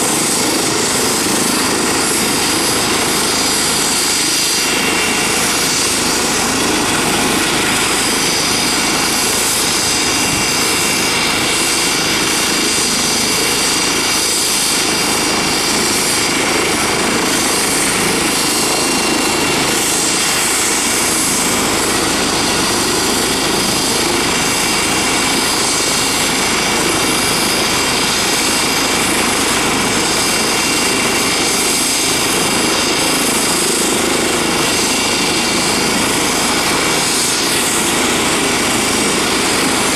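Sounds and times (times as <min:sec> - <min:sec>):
helicopter rotor noise: 0:00.0 - 0:39.9
high turbine whine: 0:00.0 - 0:39.9.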